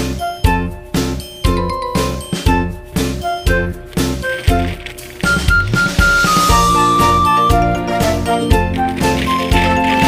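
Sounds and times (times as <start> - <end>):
chiming melody over a beat: 0.0 - 4.7, 5.3 - 8.7.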